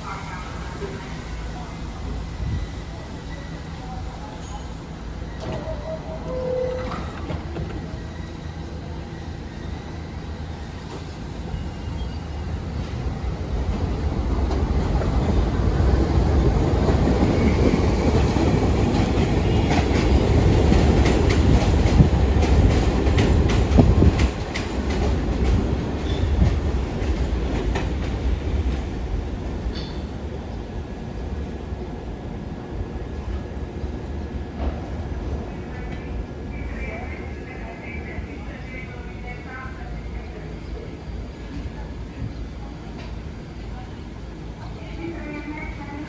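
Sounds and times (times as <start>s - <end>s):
subway train rumble: 0.0s - 46.0s.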